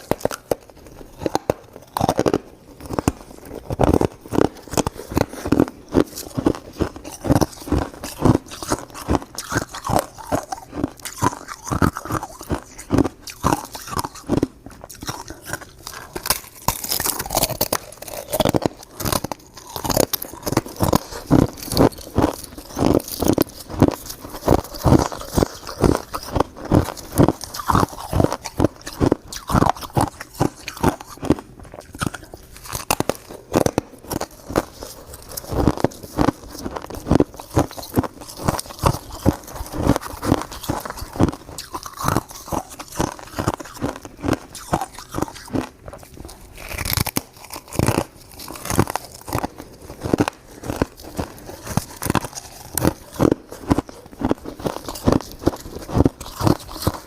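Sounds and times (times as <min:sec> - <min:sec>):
crunchy ice chewing: 0:00.0 - 0:57.0.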